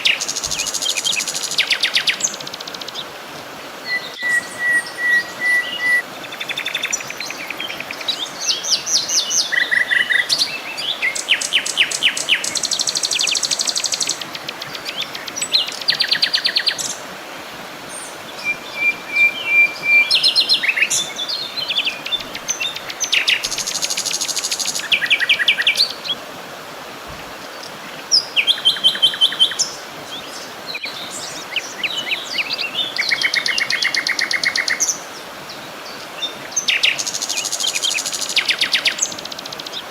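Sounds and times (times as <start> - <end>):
soft background hiss: 0.0 - 39.9
songbirds singing: 0.0 - 39.9.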